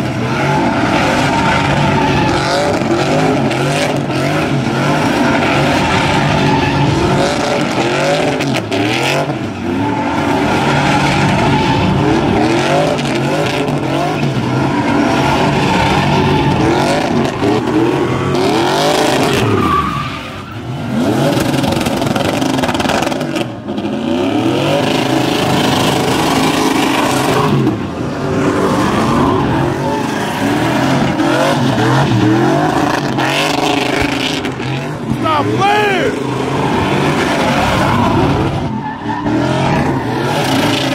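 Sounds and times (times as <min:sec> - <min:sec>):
tires squealing: 0:00.0 - 0:40.9
truck engines revving: 0:00.0 - 0:40.9.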